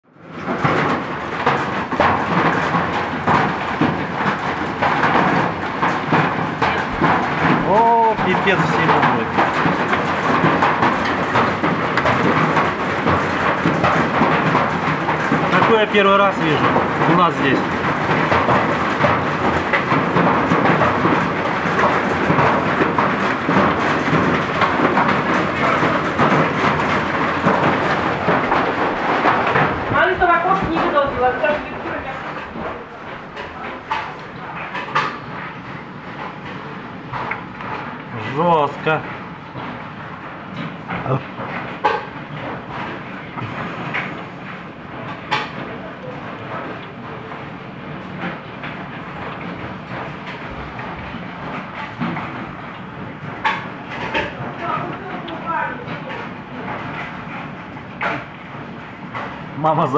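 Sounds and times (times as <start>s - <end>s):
rain: 0.0s - 59.9s
hailstones clattering: 0.2s - 59.9s.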